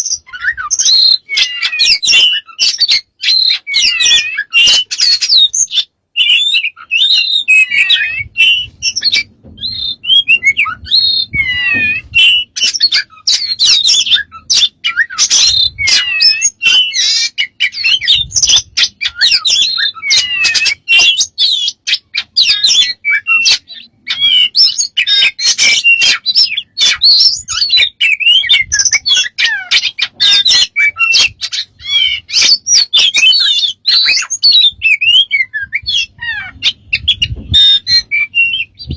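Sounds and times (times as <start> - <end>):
bird calling: 0.0 - 38.9.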